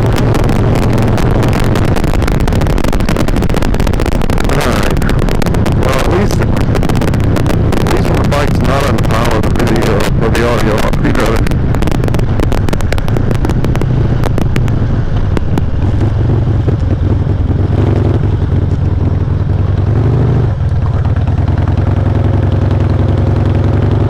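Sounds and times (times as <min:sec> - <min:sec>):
distorted motorcycle engine: 0:00.0 - 0:24.0.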